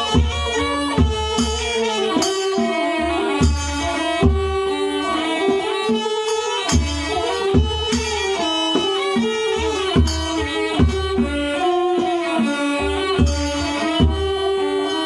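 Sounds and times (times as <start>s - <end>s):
bowed fiddle melody: 0.0s - 15.0s
string instruments: 0.0s - 15.0s.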